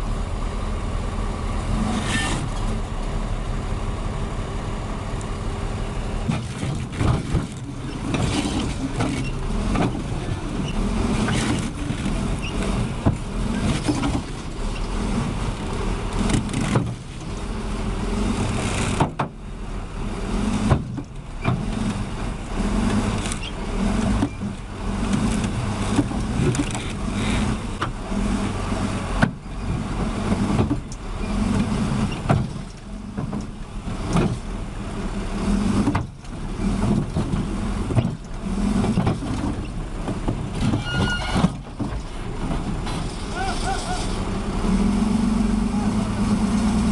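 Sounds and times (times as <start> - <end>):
heavy vehicle engines rumbling: 0.0 - 46.9.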